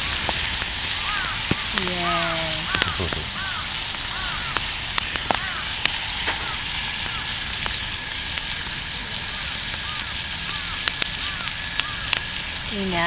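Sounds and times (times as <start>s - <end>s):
meat sizzling on a grill: 0.0s - 13.0s
wood fire popping and crackling: 0.0s - 13.0s.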